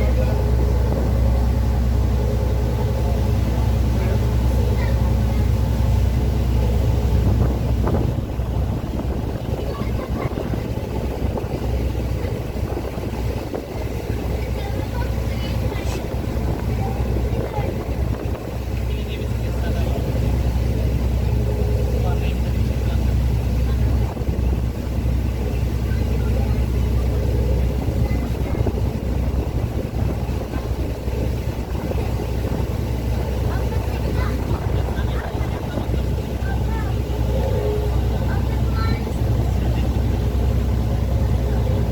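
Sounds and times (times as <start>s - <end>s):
boat engine rumbling: 0.0s - 41.9s
wind buffeting microphone: 0.0s - 41.9s.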